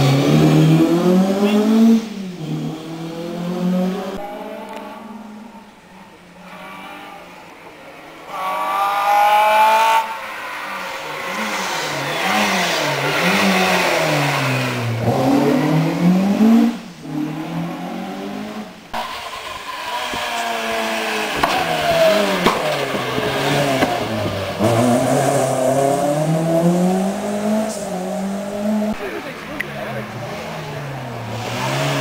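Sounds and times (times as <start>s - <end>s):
rally car engine revving: 0.0s - 5.7s, 6.3s - 32.0s.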